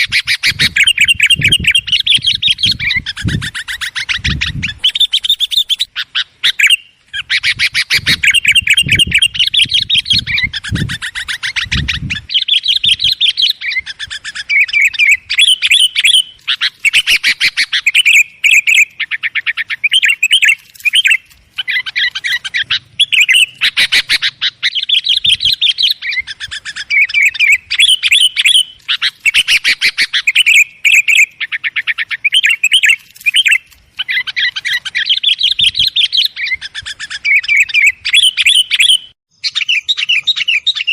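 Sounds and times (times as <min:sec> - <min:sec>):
birds chattering: 0:00.0 - 0:40.9.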